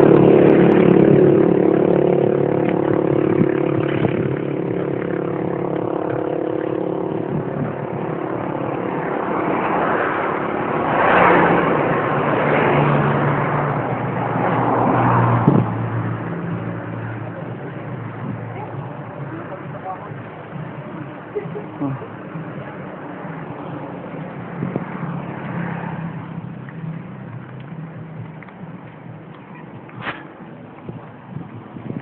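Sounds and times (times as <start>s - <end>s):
motor vehicle engine hum: 0.0s - 32.0s
vehicles passing: 0.0s - 32.0s.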